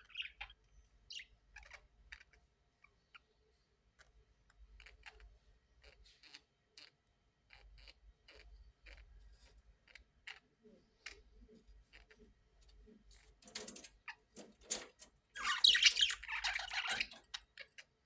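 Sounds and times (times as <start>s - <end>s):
parrots chirping and clicking: 0.0s - 2.4s, 4.0s - 9.2s, 9.8s - 18.0s.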